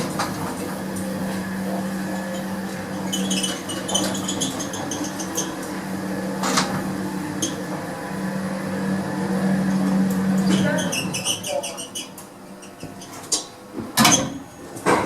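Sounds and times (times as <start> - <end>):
lift running with steady hum: 0.0 - 15.0.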